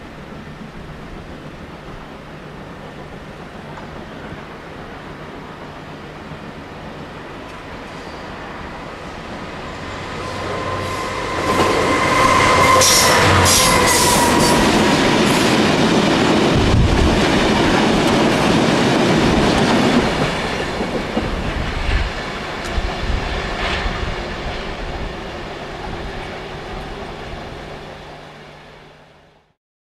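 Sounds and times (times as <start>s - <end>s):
freight train passing: 0.0s - 29.5s.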